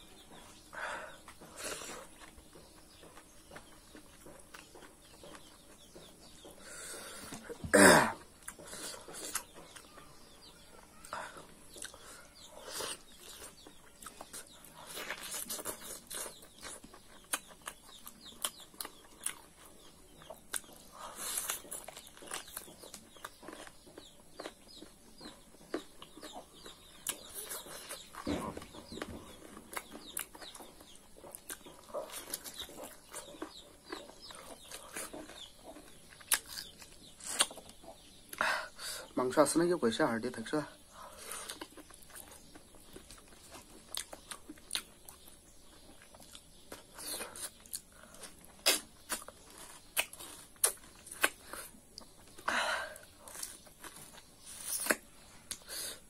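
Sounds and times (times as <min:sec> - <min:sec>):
chickens clucking: 0:00.0 - 0:56.0
man chewing with lip smacks: 0:00.1 - 0:07.6, 0:08.3 - 0:38.4, 0:41.1 - 0:56.0.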